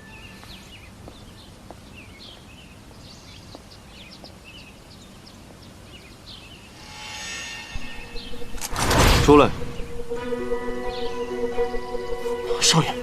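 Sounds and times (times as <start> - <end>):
small birds chirping: 0.0 - 8.6, 9.2 - 13.0.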